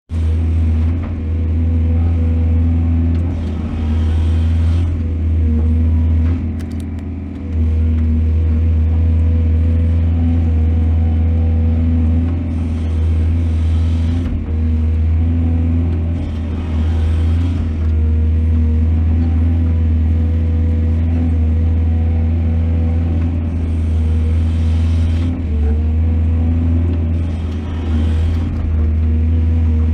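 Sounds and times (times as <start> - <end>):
heavy diesel engine humming: 0.1 - 29.9.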